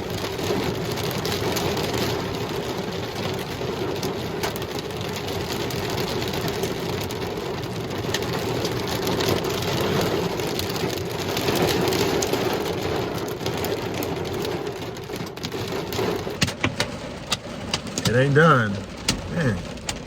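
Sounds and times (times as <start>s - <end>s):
heavy rain pouring: 0.0s - 20.0s
raindrops ticking on hard surfaces: 0.0s - 20.0s.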